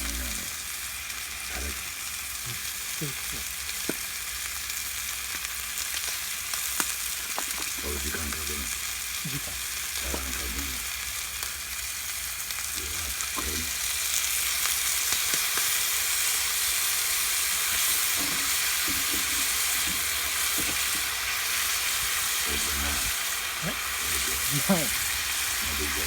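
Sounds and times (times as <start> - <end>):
steak sizzling: 0.0 - 26.0.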